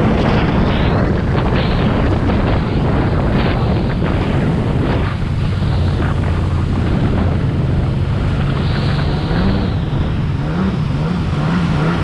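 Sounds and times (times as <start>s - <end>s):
jet ski engine: 0.0s - 12.0s
wind buffeting microphone: 0.0s - 12.0s.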